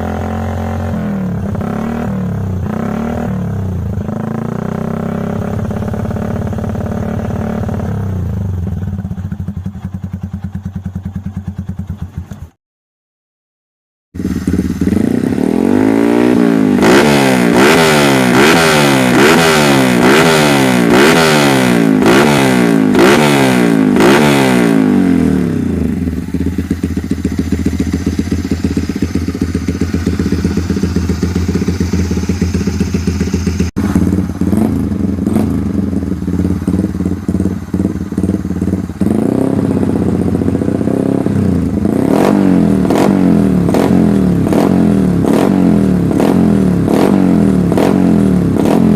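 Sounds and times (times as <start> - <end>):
motorcycle engine revving and idling: 0.0 - 12.6, 14.2 - 48.9.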